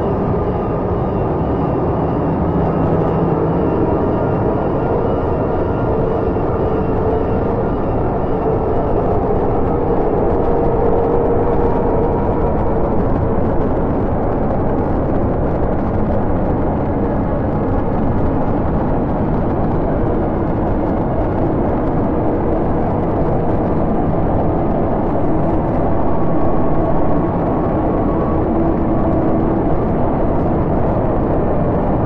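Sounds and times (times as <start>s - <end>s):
dark ambient drone music: 0.0s - 32.0s.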